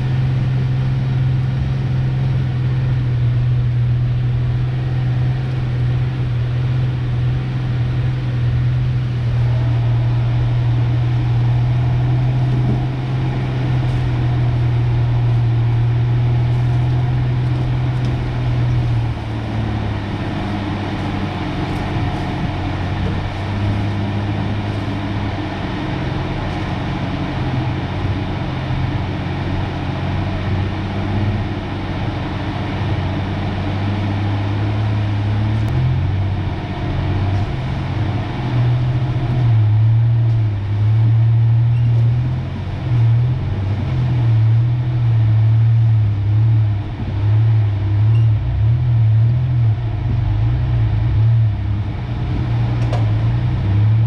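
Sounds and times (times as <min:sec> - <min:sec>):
pickup truck engine drone: 0:00.0 - 0:54.0.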